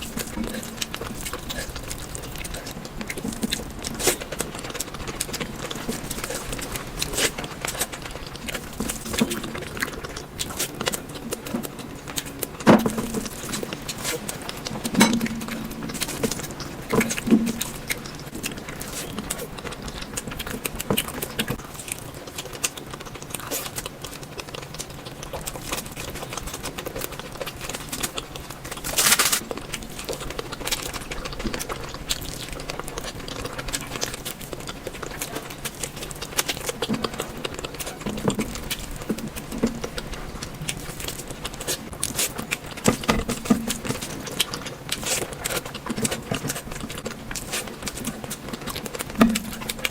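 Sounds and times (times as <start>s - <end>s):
wet chewing and mouth smacks: 0.0s - 49.9s.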